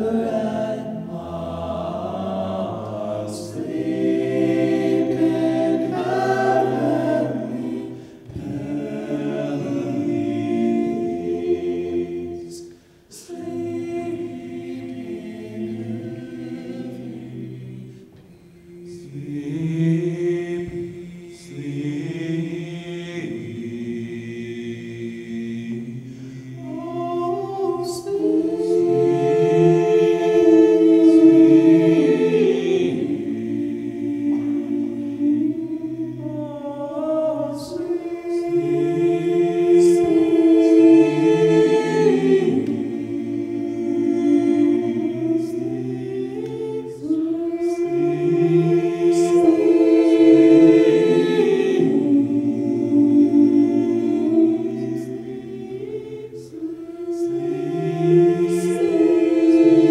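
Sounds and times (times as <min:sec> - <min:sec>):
men singing close harmony: 0:00.0 - 0:59.9.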